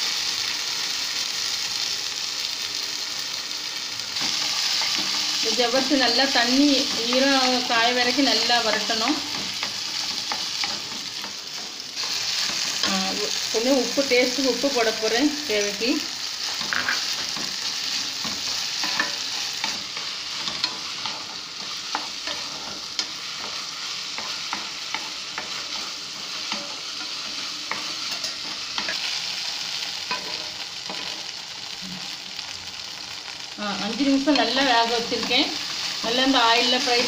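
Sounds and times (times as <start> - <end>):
sago frying in oil sizzling: 0.0 - 37.0.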